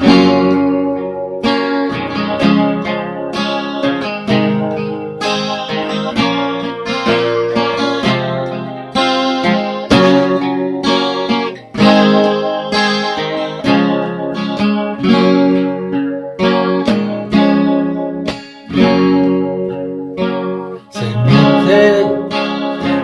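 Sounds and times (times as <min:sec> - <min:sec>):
guitar strumming and plucking chords: 0:00.0 - 0:23.0.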